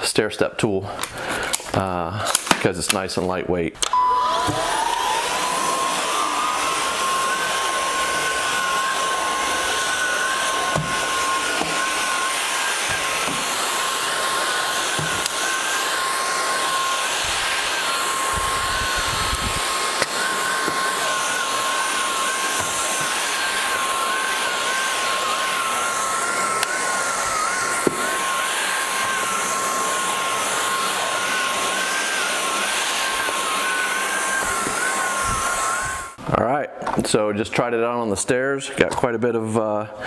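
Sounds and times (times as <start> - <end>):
stick vacuum motor whine: 3.8 - 37.0.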